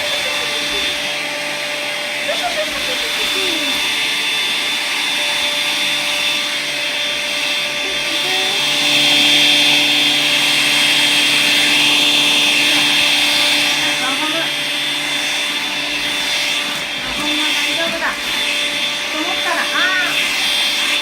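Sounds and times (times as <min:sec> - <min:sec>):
vacuum cleaner whining: 0:00.0 - 0:21.0.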